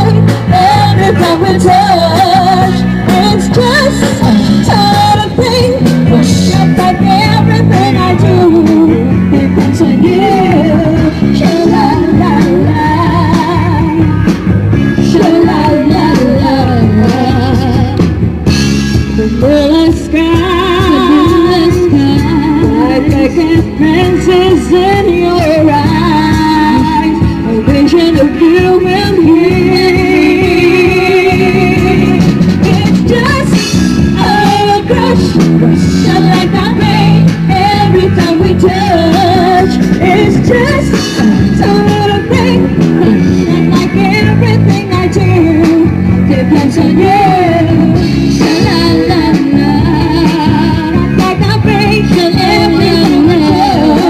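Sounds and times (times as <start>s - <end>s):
band playing pop-rock song: 0.0s - 54.0s.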